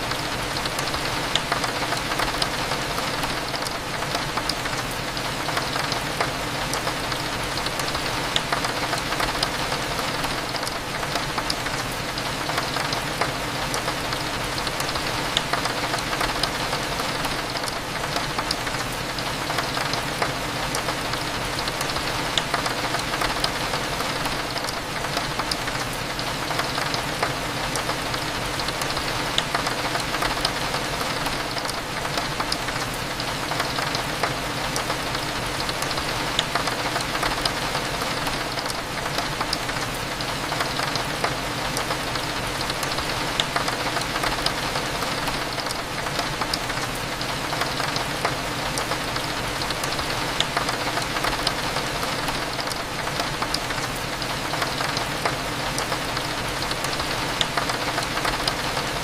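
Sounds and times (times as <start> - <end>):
rain hitting a window: 0.0 - 59.0.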